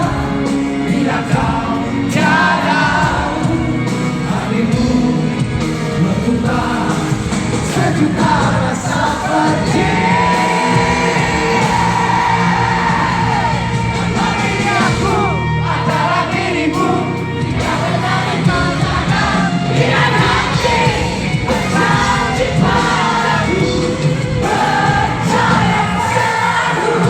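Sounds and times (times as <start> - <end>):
audience singing along: 0.0 - 27.0
live rock band: 0.0 - 27.0.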